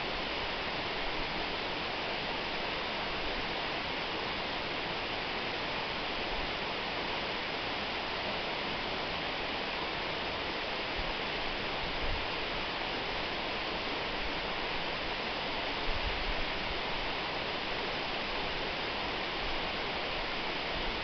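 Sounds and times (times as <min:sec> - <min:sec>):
waterfall roar: 0:00.0 - 0:21.0.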